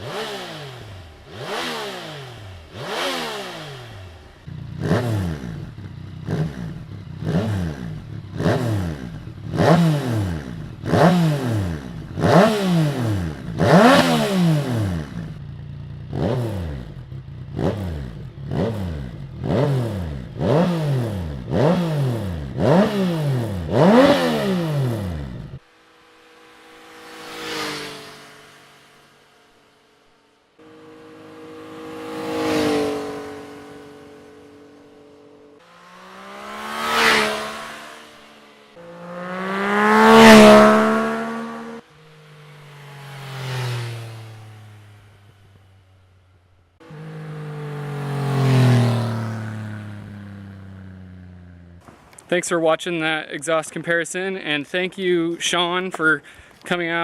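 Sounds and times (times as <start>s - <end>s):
motorcycle engine revving: 0.0s - 53.3s
engine droning: 0.0s - 57.0s.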